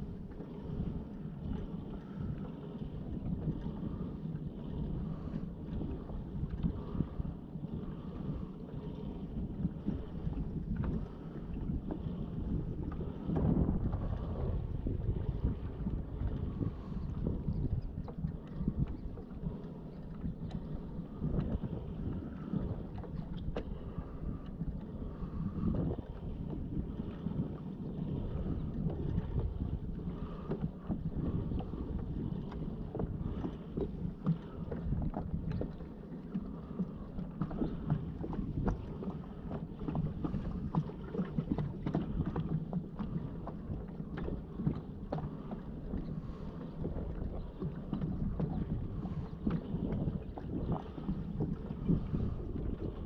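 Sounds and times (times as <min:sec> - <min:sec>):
water splashing against kayak hull: 0:00.0 - 0:53.0
wind rumble on microphone: 0:00.0 - 0:53.0.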